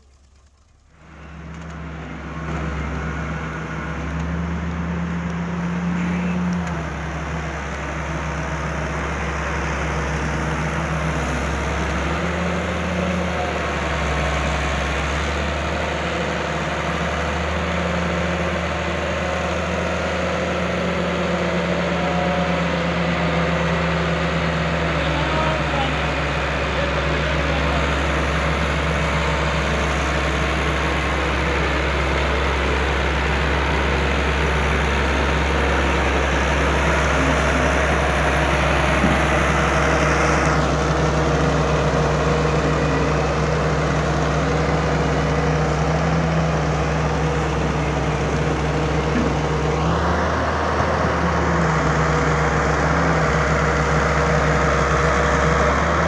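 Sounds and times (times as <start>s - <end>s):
heavy diesel engine humming: 0.0s - 56.0s.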